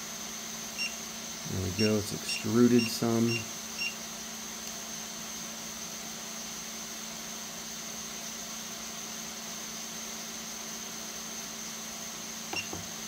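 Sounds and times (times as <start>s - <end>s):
cooling fans whirring: 0.0s - 13.0s.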